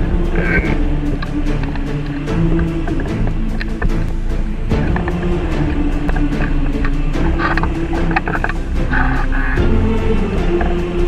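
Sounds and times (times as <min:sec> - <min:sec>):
background music with held notes: 0:00.0 - 0:11.0
regular clicking beat: 0:00.0 - 0:11.0.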